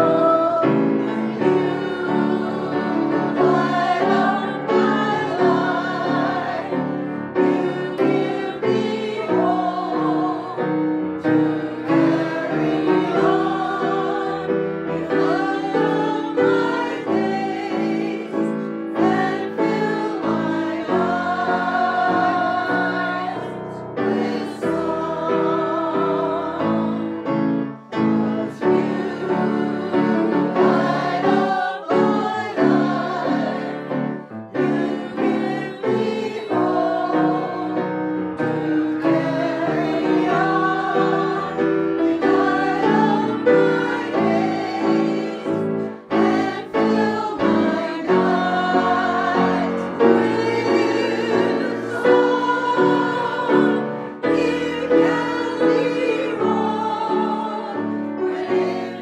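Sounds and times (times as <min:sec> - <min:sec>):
grand piano: 0:00.0 - 0:59.0
women's voices singing along: 0:00.0 - 0:59.0.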